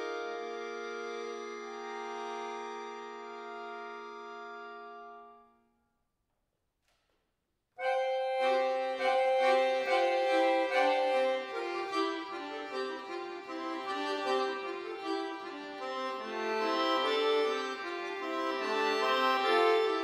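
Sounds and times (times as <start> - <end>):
accordion playing: 0.0 - 5.6, 7.8 - 20.0.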